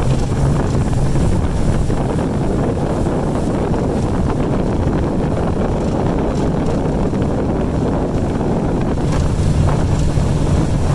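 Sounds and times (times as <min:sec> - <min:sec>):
boat motor droning: 0:00.0 - 0:10.9
wind buffeting microphone: 0:00.0 - 0:10.9.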